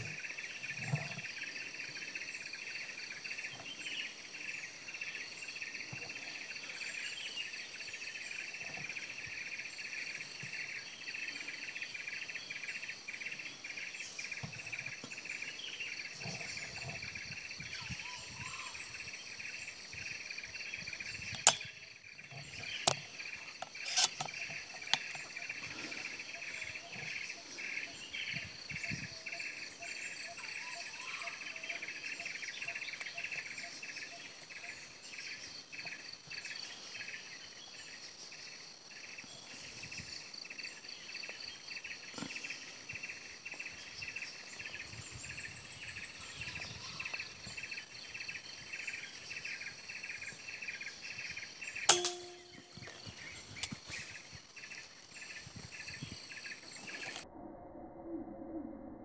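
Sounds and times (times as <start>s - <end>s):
insects chorus: 0.0s - 57.3s.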